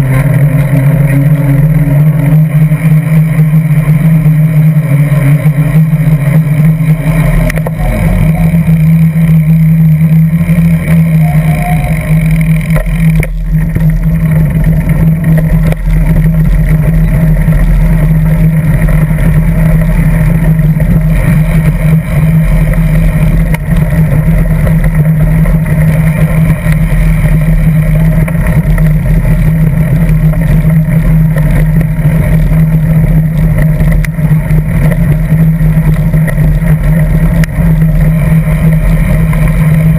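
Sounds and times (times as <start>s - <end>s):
bicycle tyres on asphalt and gravel: 0.0s - 39.9s
constant low hum: 0.0s - 39.9s
wind rumble: 0.0s - 39.9s.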